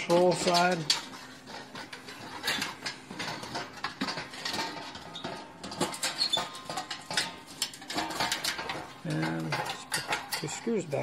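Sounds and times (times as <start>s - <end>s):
metal parts rattling and scraping: 0.0s - 11.0s.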